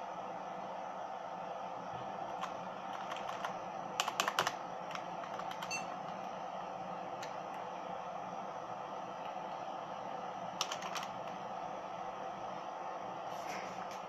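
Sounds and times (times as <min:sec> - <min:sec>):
computer whirring: 0:00.0 - 0:14.0.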